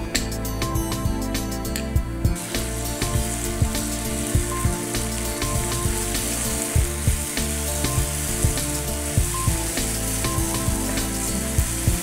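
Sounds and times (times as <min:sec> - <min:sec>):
vegetables sizzling in oil: 0:02.4 - 0:12.0.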